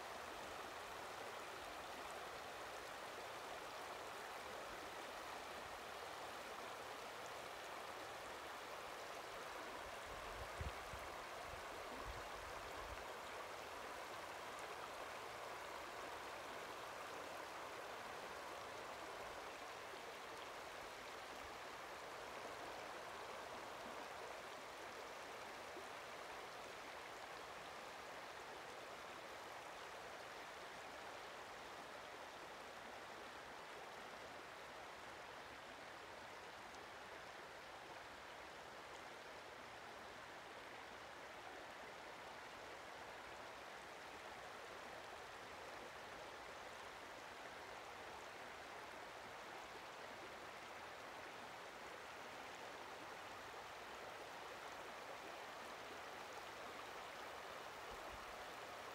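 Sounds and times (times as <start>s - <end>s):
river water running over rocks: 0.0s - 58.9s.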